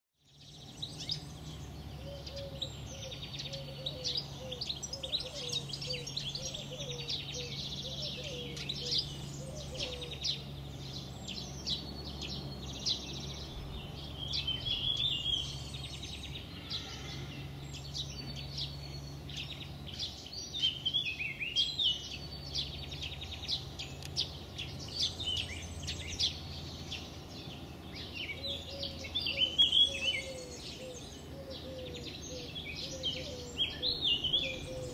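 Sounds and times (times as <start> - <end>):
songbirds chirping and singing: 0.2 - 34.9
steady low hum: 0.2 - 34.9.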